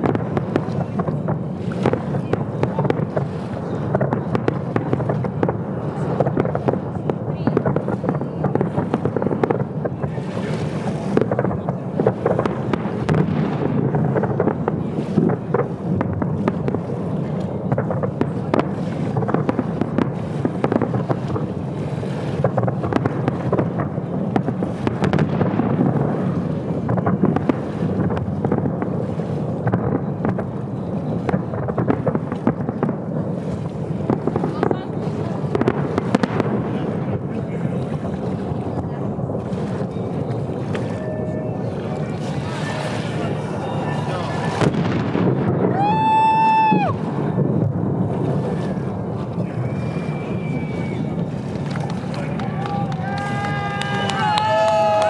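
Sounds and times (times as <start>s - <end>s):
fireworks bangs and crackles: 0.0s - 55.0s
wind rumbling on microphone: 0.0s - 55.0s.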